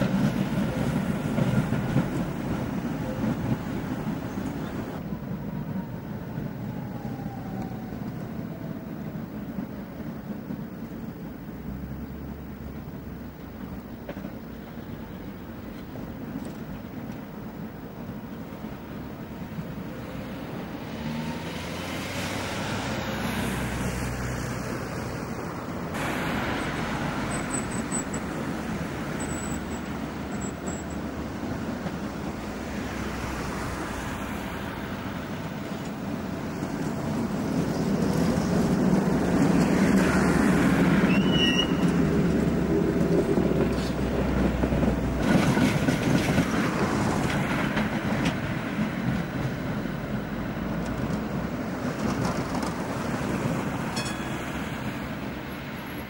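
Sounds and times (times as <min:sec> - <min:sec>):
road traffic: 0:00.0 - 0:56.0
tram rolling past: 0:00.0 - 0:56.0
trams running on track: 0:00.0 - 0:56.0.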